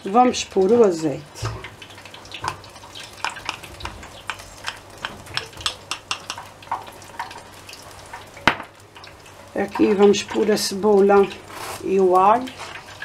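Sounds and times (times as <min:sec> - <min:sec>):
oil crackling in frying pan: 0:00.0 - 0:13.0.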